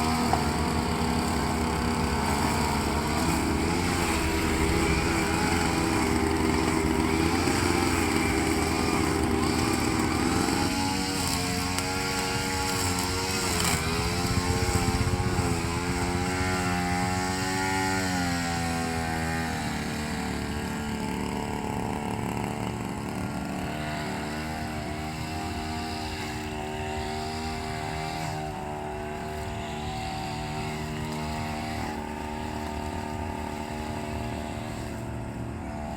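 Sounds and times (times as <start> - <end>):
grass trimmer engines running: 0.0 - 35.9.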